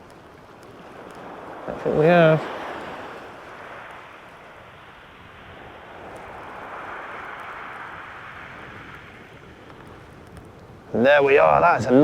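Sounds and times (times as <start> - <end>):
sea waves washing on beach: 0.0 - 12.0.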